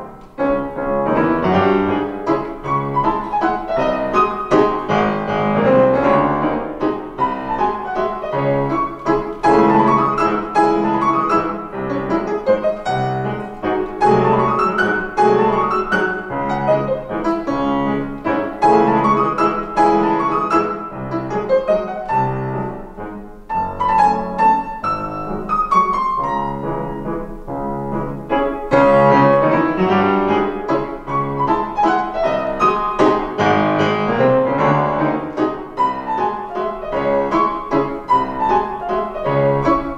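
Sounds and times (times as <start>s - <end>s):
classical piano duet: 0.0s - 39.9s.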